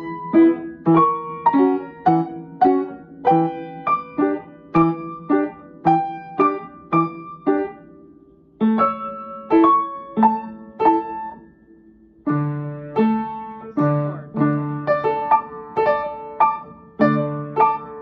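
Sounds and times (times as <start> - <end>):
low piano bass: 0.0 - 18.0
piano chords: 0.0 - 18.0.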